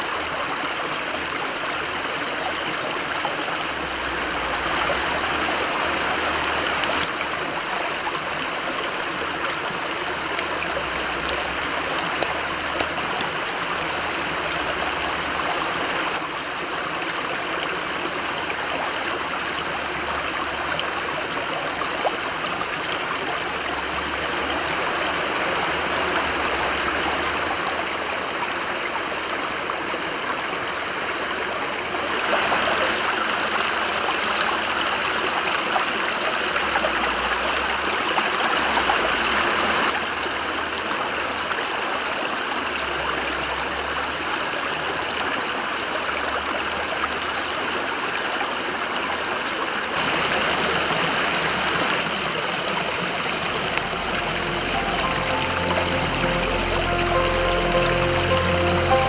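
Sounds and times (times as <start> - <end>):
creek flowing over stones: 0.0 - 59.0.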